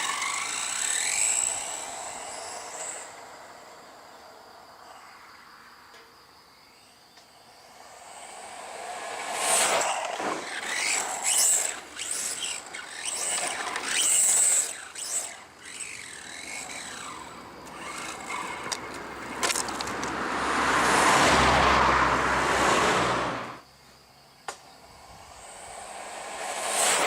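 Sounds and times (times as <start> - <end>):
electric motor whine: 0.0 - 4.1, 7.6 - 23.6, 24.8 - 27.0.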